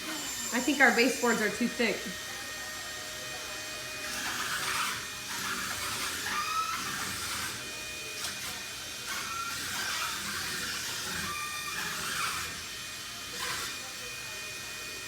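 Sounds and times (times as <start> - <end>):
drive motor whining: 0.0 - 14.1
suction fan whirring: 0.0 - 15.0.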